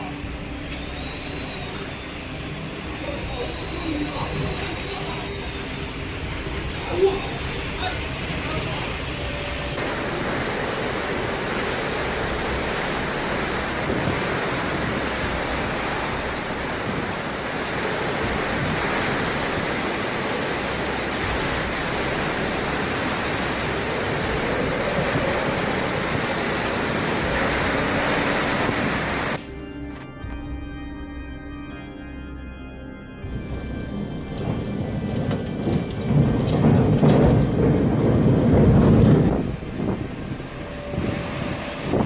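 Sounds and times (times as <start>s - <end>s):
driving rain: 1.6s - 29.4s, 33.2s - 42.0s
hurricane wind: 2.5s - 29.4s, 33.2s - 42.0s.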